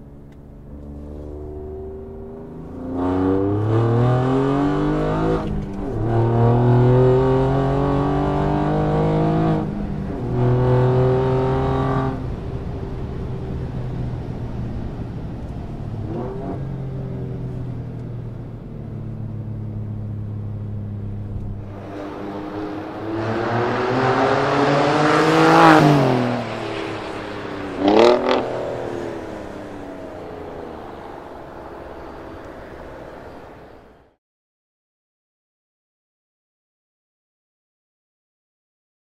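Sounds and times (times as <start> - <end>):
car engine cruising: 0.0 - 34.2
car accelerating past: 0.7 - 17.7, 19.2 - 34.0.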